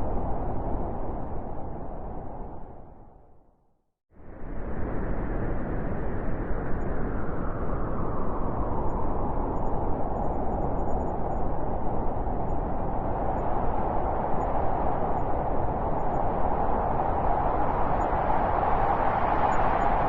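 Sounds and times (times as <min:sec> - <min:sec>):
blizzard wind blowing: 0:00.0 - 0:03.5, 0:04.2 - 0:20.0.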